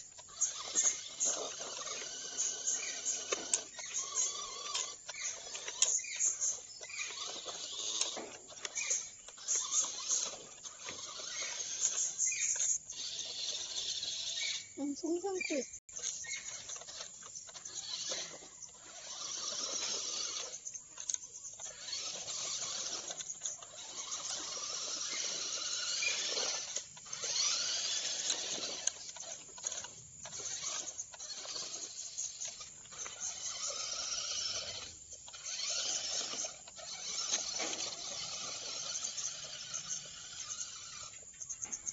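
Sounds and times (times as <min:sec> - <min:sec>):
toy car electric motors whining: 0:00.0 - 0:41.9.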